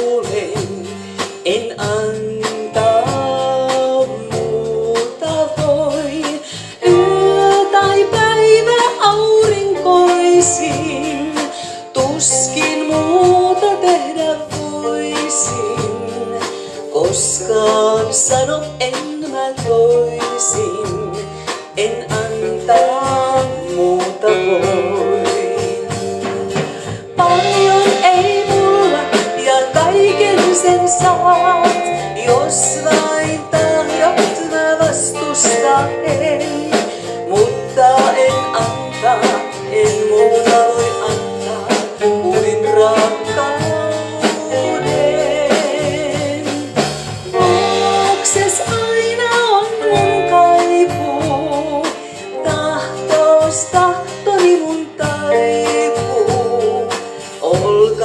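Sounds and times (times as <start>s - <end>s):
live guitar band playing: 0.0s - 58.0s
woman singing: 0.0s - 58.0s.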